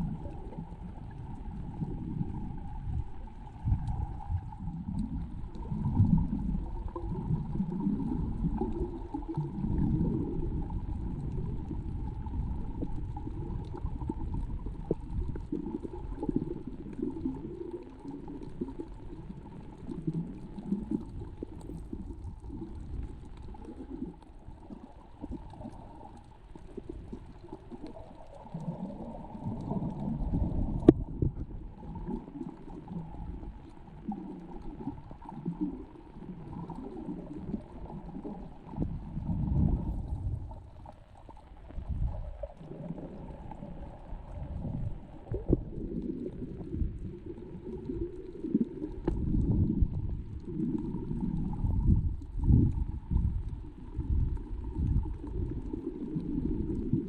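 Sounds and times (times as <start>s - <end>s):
faint steady hum: 0.0s - 57.0s
low underwater rumble: 0.0s - 57.0s
water gurgling underwater: 0.0s - 57.0s.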